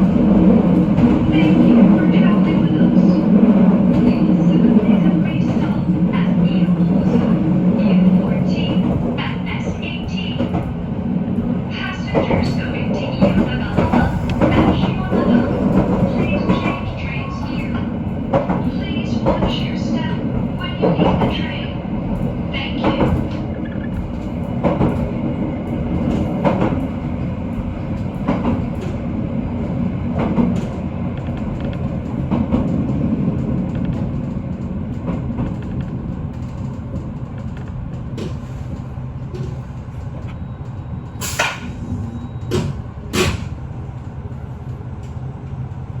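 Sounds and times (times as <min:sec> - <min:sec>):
train cabin rumble: 0:00.0 - 0:46.0.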